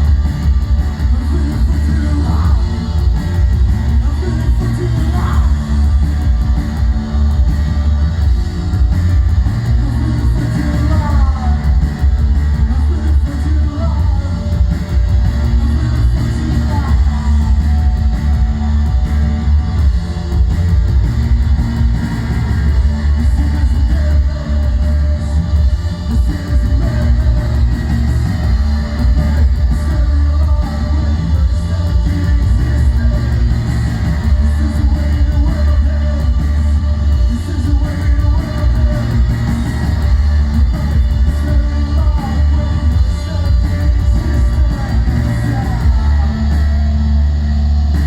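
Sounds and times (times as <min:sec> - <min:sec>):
band playing live: 0:00.0 - 0:48.0.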